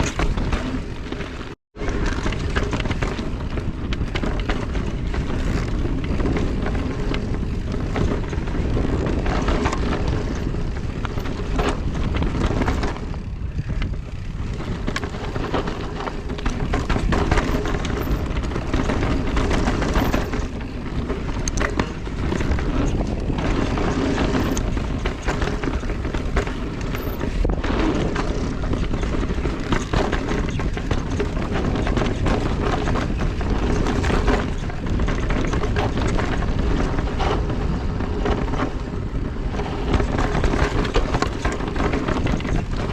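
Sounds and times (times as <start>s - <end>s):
wind buffeting microphone: 0.0s - 1.2s, 1.8s - 42.9s
bike knocks and rattles: 0.0s - 42.9s
tyres rolling over dirt and rock: 0.0s - 42.9s.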